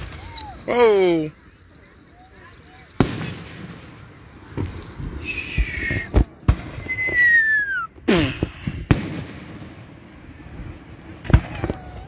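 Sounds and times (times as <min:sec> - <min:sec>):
fireworks bangs: 0:00.0 - 0:01.6, 0:02.2 - 0:12.0
fireworks falling whistles: 0:00.0 - 0:12.0.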